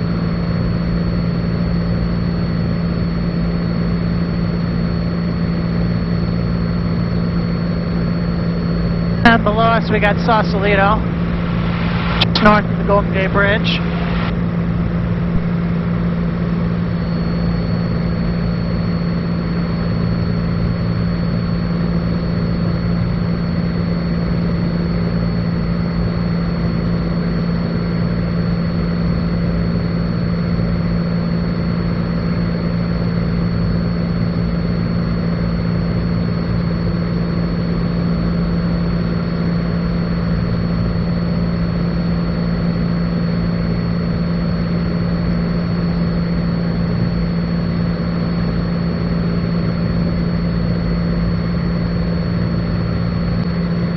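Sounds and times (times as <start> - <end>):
airplane engine droning in cabin: 0.0 - 53.9.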